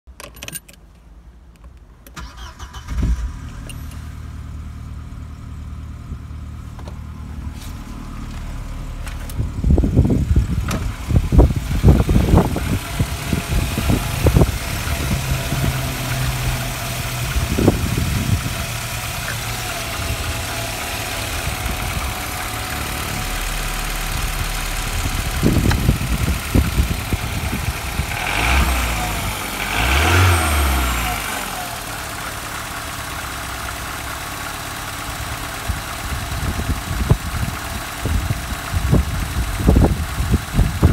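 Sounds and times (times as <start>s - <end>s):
petrol engine starting and idling: 2.0s - 40.9s.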